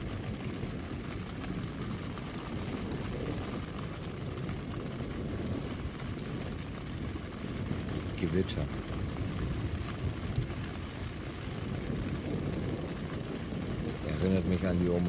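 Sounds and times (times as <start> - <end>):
wind and rain against tent: 0.0 - 15.0.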